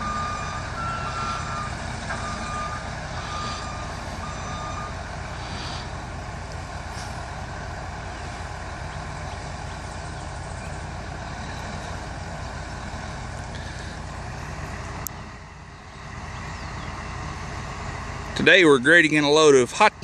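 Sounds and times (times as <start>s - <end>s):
distant diesel engine running: 0.0s - 20.0s.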